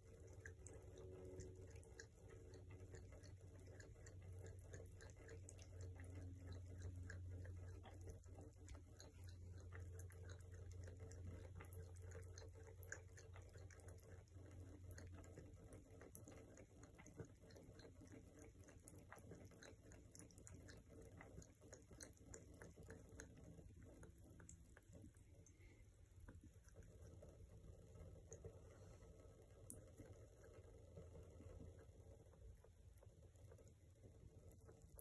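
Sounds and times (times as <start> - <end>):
cat lapping water: 0.0 - 35.0
water trickling from tap: 0.0 - 35.0.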